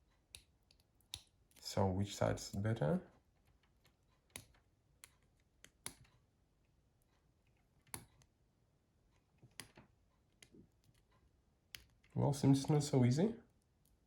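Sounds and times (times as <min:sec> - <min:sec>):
faint clicks of plastic parts: 0:00.0 - 0:12.8, 0:13.4 - 0:14.0.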